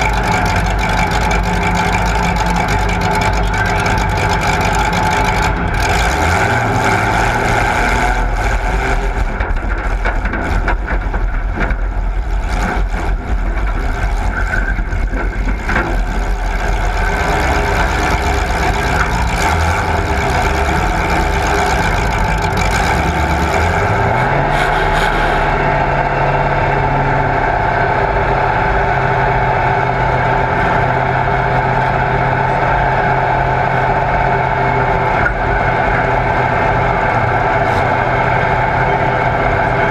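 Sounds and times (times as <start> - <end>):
motor vehicle engines running: 0.0 - 39.9.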